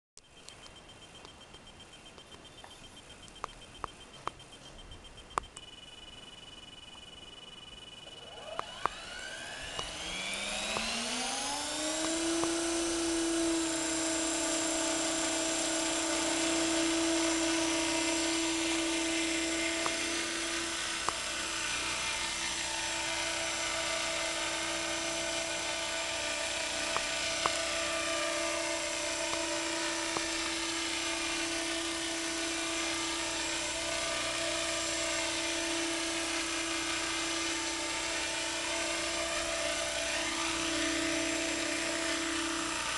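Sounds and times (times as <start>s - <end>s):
model helicopter motor whine: 0.4s - 42.9s.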